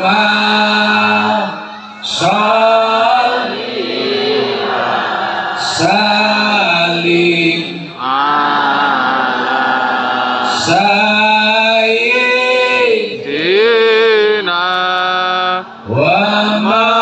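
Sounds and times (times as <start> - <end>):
man chanting through loudspeakers: 0.0 - 3.7, 5.6 - 17.0.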